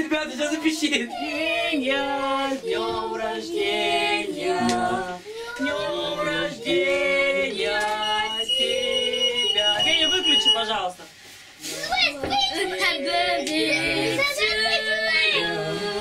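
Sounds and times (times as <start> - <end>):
group of voices singing together: 0.0 - 10.5, 12.2 - 16.0.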